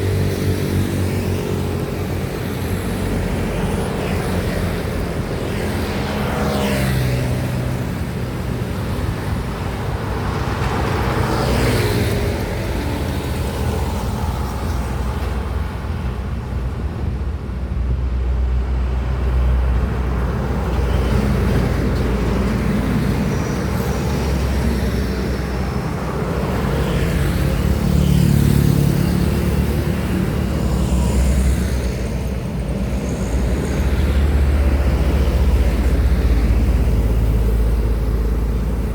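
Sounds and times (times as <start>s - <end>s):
vehicles driving past: 0.0s - 38.9s.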